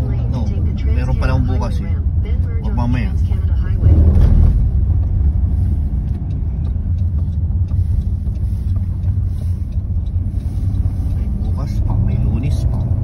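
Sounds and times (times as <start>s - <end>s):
car engine rumble and road noise: 0.0s - 13.0s.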